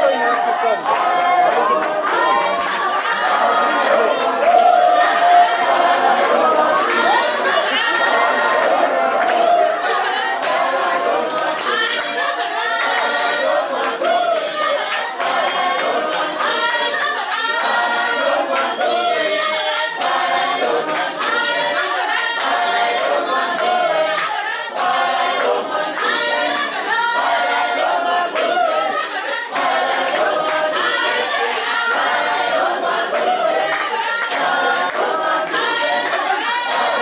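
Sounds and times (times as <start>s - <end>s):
group singing a cappella: 0.0s - 37.0s
hand-clapping: 0.0s - 37.0s.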